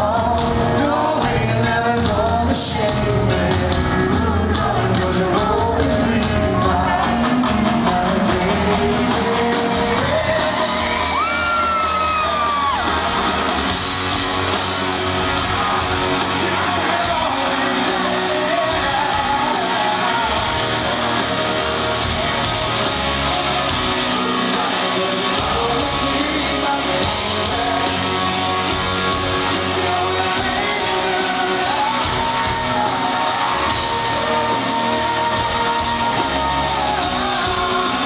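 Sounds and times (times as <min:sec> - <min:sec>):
drum beat: 0:00.0 - 0:38.0
electric guitar: 0:00.0 - 0:38.0
man singing: 0:00.0 - 0:38.0.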